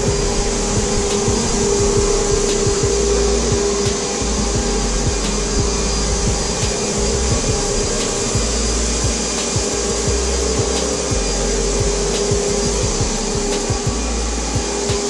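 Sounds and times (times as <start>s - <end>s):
paint sprayer turbine whirring: 0.0s - 15.0s.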